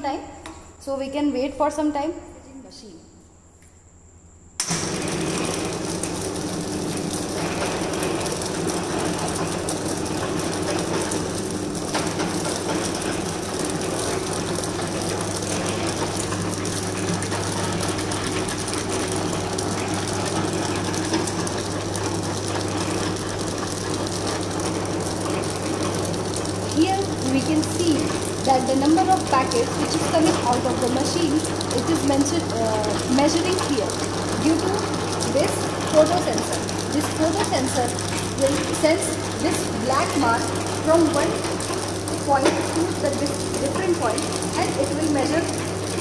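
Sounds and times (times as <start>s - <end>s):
packing machine running: 4.6s - 46.0s.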